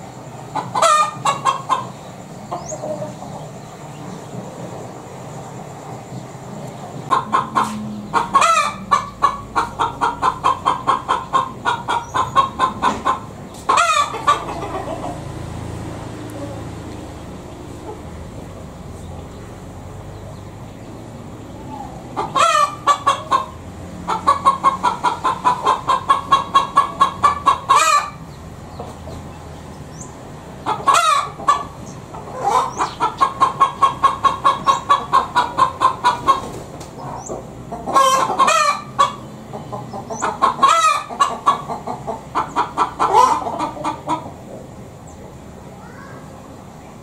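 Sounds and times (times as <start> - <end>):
hen clucking: 0.0 - 4.5, 6.7 - 46.0.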